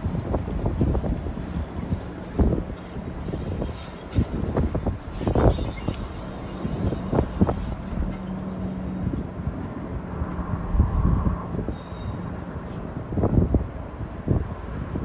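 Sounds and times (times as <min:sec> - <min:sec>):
diesel train rumbling past: 0:00.0 - 0:15.0.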